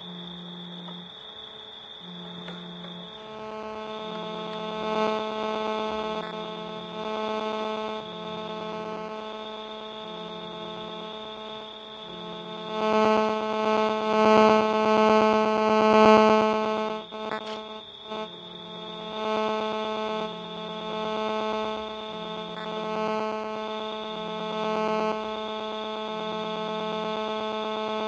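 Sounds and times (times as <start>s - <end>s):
electronic buzz with pulsing chatter: 0.0s - 28.0s.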